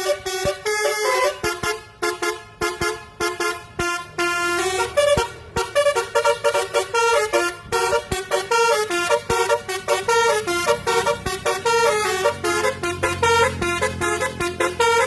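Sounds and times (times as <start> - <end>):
musical vehicle horn melody: 0.0 - 15.0.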